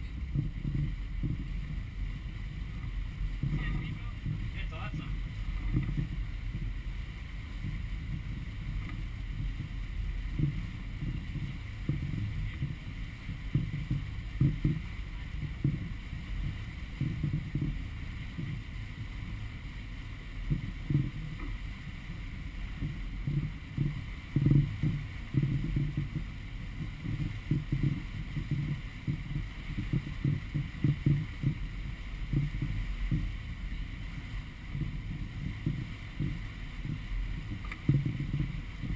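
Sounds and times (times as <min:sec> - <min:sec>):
boat engine drone: 0:00.0 - 0:38.9
wind buffeting microphone: 0:00.0 - 0:38.9.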